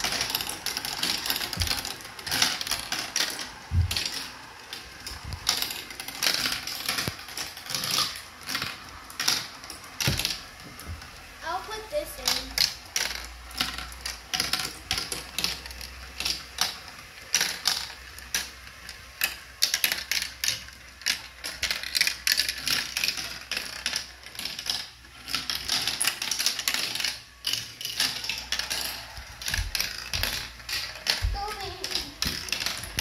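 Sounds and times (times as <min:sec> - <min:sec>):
plastic chain clicking: 0:00.0 - 0:10.6, 0:12.2 - 0:33.0
marbles rolling in plastic tracks: 0:00.0 - 0:33.0.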